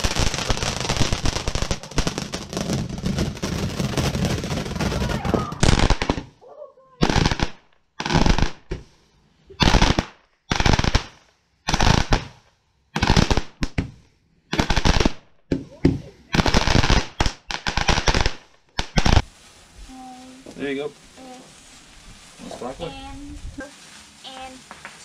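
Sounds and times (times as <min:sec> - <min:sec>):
fireworks crackling bursts: 0:00.0 - 0:06.4, 0:07.0 - 0:25.0.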